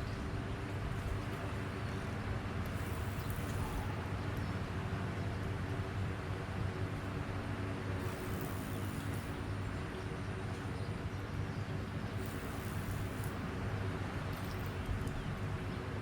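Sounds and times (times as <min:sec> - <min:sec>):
motor humming: 0:00.0 - 0:04.7, 0:07.0 - 0:16.0.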